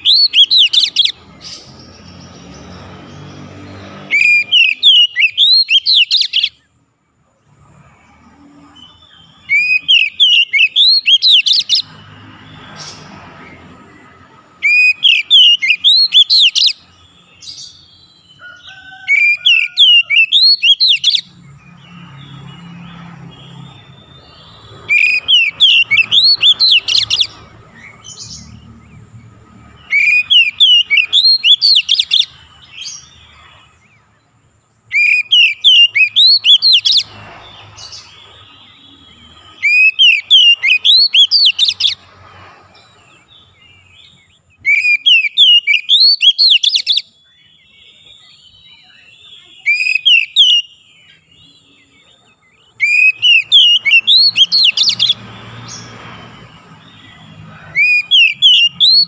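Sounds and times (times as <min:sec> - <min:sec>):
bird singing whistled notes: 0:00.0 - 0:06.7, 0:07.7 - 0:34.0, 0:34.9 - 0:42.1, 0:43.1 - 0:59.0.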